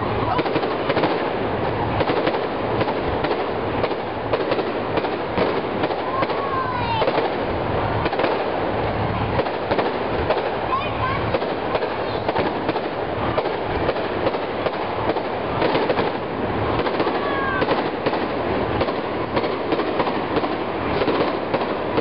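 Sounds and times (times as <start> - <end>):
firework whistling: 0.0 - 22.0
fireworks crackling bangs: 0.0 - 22.0.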